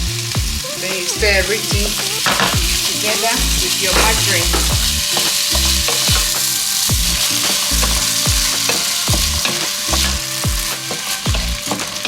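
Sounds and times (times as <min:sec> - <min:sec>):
rice sizzling in a pot: 0:00.0 - 0:12.0.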